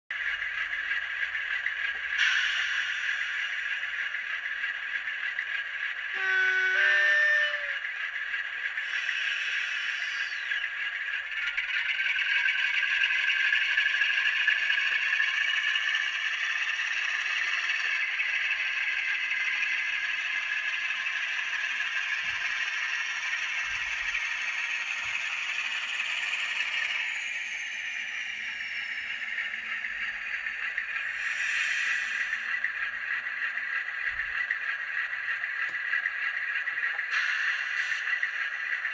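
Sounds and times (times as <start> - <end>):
faint high whine: 0.2 - 38.9.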